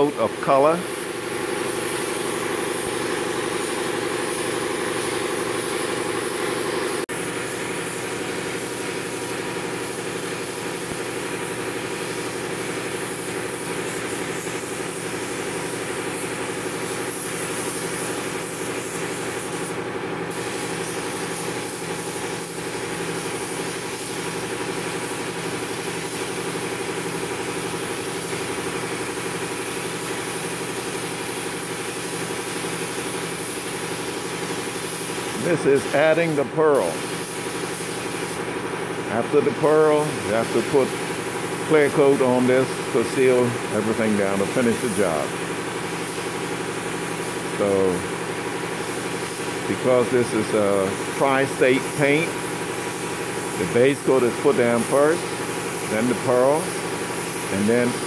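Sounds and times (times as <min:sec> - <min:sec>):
air compressor humming: 0:00.0 - 0:58.0
spray gun hissing: 0:00.0 - 0:58.0.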